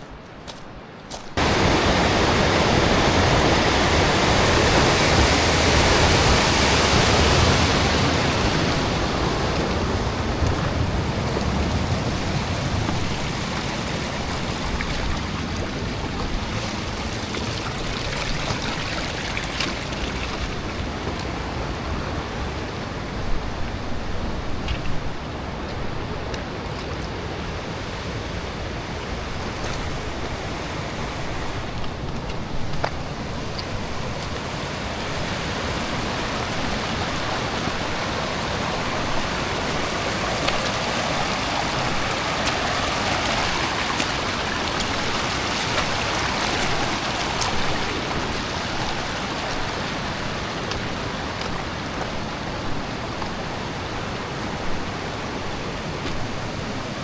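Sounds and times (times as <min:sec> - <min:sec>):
river rushing over rocks: 0:01.1 - 0:57.0.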